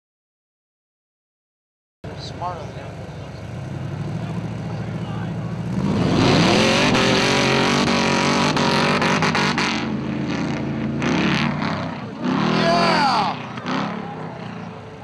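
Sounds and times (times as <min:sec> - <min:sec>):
buggy engines revving: 0:02.0 - 0:15.0.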